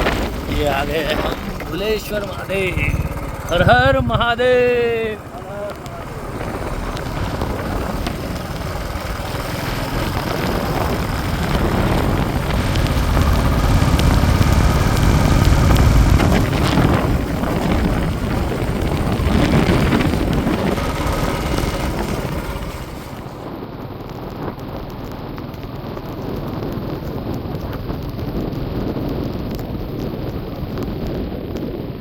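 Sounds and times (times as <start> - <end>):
motorcycle road noise: 0.0 - 32.0
rushing wind: 0.0 - 32.0.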